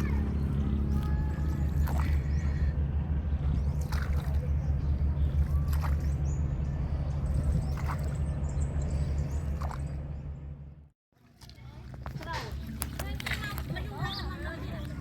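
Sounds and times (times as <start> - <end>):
boat engine droning: 0.0 - 15.0
water sloshing: 0.0 - 15.0.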